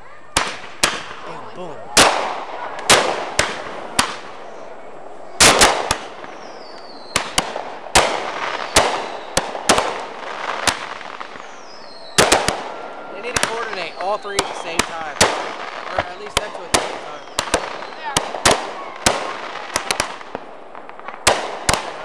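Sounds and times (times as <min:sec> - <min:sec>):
fireworks bangs with echo: 0:00.3 - 0:22.0.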